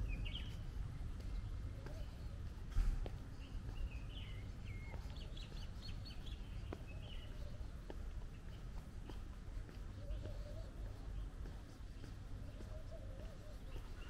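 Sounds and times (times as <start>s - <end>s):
faint footsteps: 0.0s - 14.0s
songbirds chirping and whistling: 0.0s - 14.0s.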